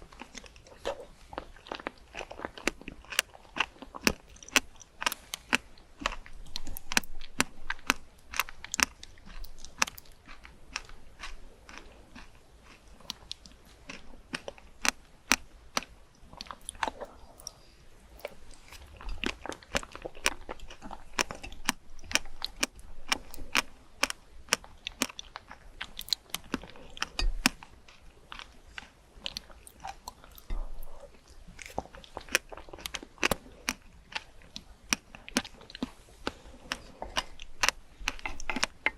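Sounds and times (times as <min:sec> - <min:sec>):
person chewing crunchy fruit: 0:00.0 - 0:38.9.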